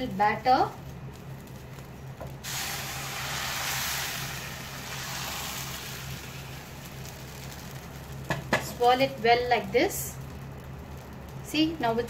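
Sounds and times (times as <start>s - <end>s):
batter hissing in hot pan: 1.1s - 12.0s.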